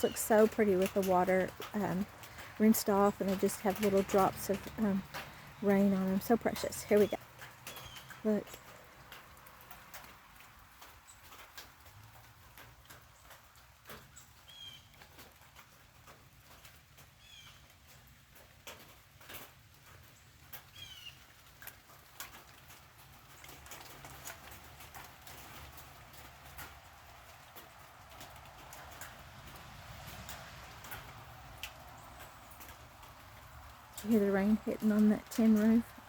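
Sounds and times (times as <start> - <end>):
rain dripping on a tin roof: 0.0 - 36.0.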